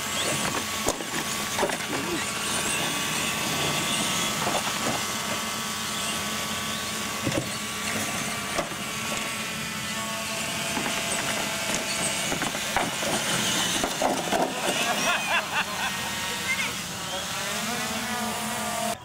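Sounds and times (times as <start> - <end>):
electric motors and gears whining: 0.0 - 19.0.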